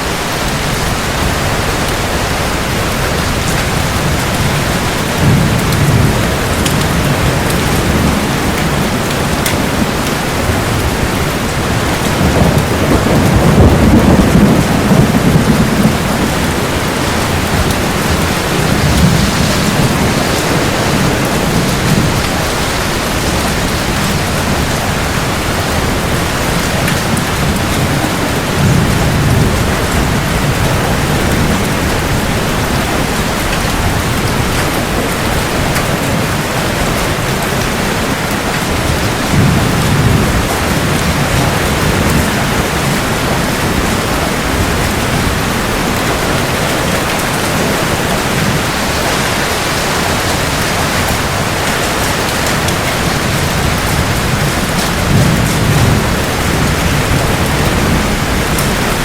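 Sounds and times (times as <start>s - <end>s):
heavy rain falling: 0.0s - 59.0s
thunder rumbling: 0.0s - 59.0s.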